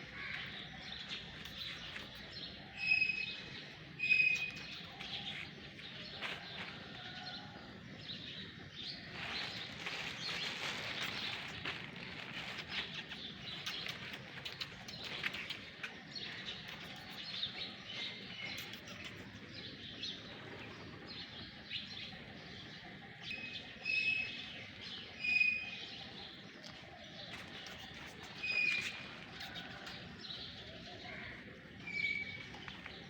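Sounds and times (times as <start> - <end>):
birds chirping: 0.0 - 33.0
outdoor background noise: 0.0 - 33.0.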